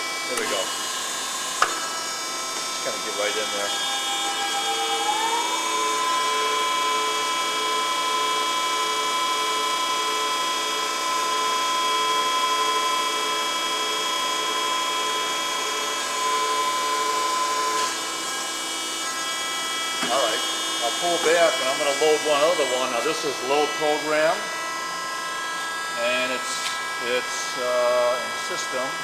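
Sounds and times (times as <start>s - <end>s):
high machine whine: 0.0s - 29.0s.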